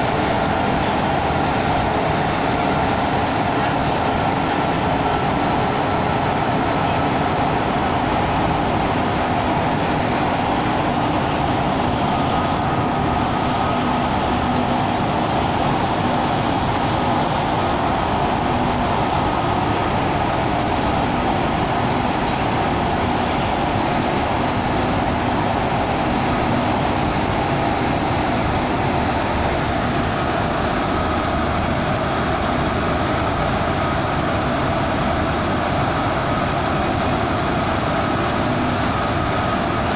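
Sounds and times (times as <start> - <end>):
bus engine and tyre drone: 0.0 - 39.9
faint steady whine: 0.0 - 39.9.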